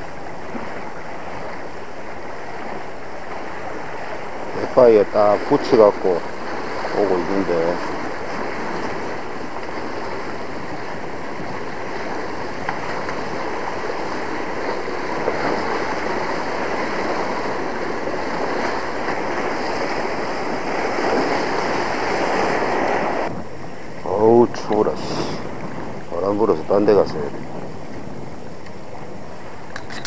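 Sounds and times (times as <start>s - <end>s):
seawater washing against rocks: 0.0s - 30.0s
wind on microphone: 0.0s - 30.0s.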